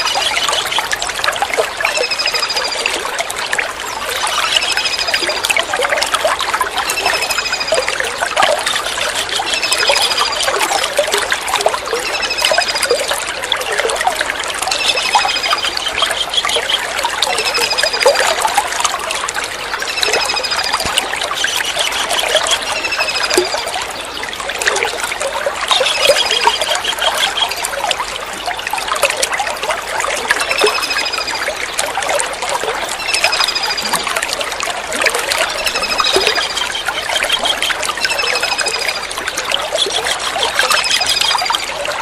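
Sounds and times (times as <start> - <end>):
water trickling: 0.0 - 42.0.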